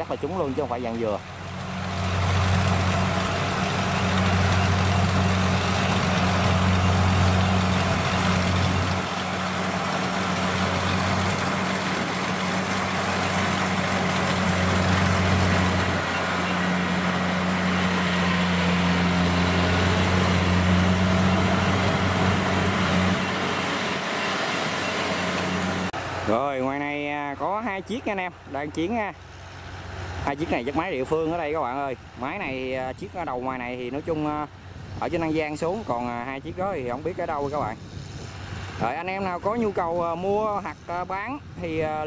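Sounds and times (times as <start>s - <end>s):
diesel engine hum: 0.0s - 41.8s.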